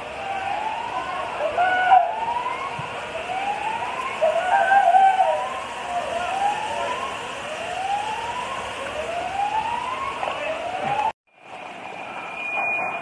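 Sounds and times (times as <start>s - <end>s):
siren rising sweeps: 0.0s - 13.0s.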